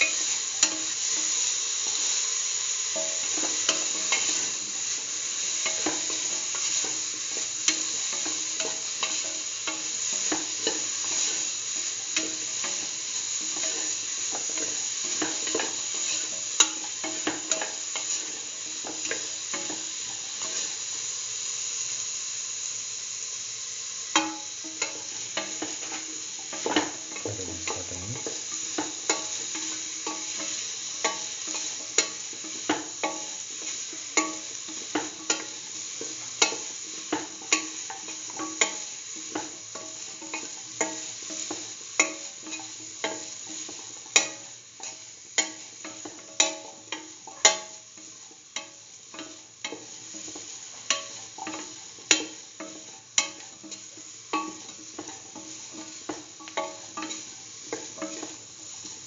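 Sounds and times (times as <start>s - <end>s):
vegetables sizzling in hot oil: 0.0s - 59.0s.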